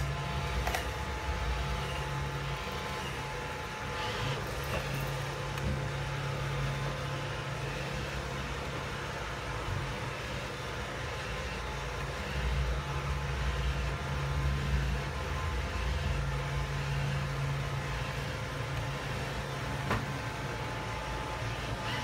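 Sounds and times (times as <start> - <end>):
robot vacuum humming: 0.0 - 22.0.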